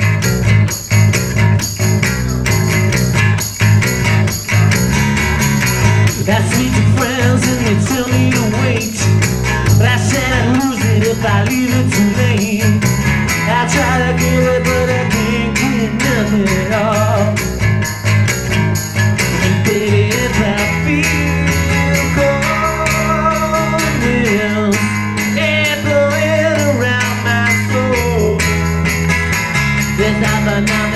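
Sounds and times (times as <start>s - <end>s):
bass notes: 0.0s - 30.9s
jingling percussion: 0.0s - 30.9s
strummed acoustic guitar: 0.0s - 30.9s.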